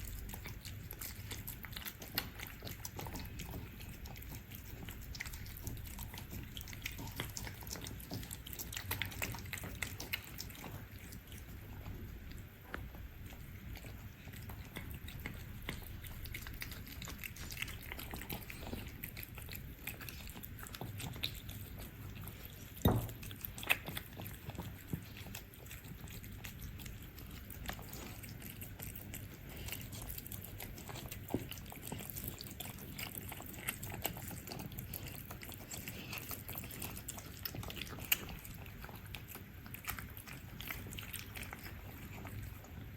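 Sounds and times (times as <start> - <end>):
cats chewing: 0.0 - 42.9.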